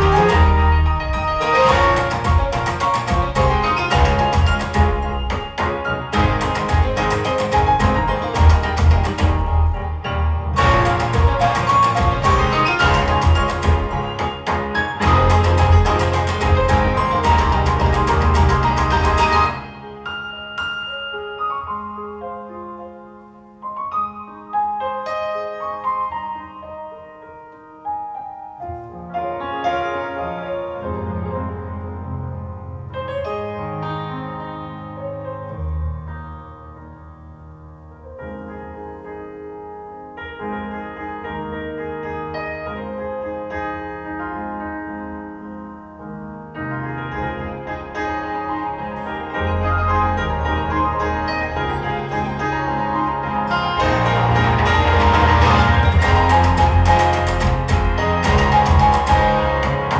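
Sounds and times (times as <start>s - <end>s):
piano music over loudspeakers: 0.0s - 59.9s.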